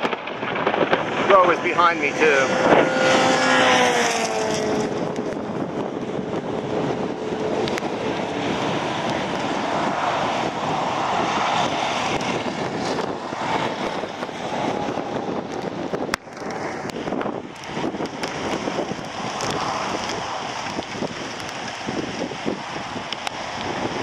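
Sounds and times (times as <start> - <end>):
gusty wind on microphone: 0.0 - 24.0
highway traffic passing: 0.0 - 24.0.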